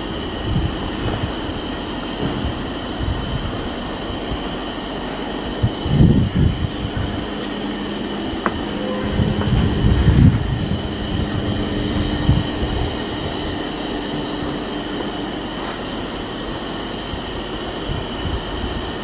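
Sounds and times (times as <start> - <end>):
low rumbling: 0.0 - 18.4
machine running with hum: 0.0 - 19.0.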